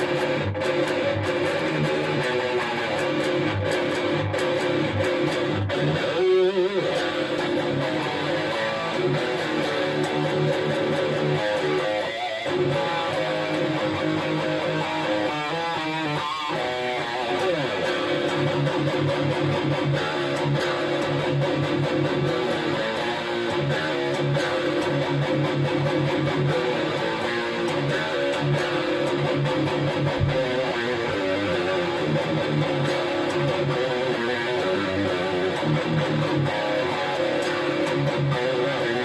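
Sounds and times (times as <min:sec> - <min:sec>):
electric guitar riff: 0:00.0 - 0:39.0.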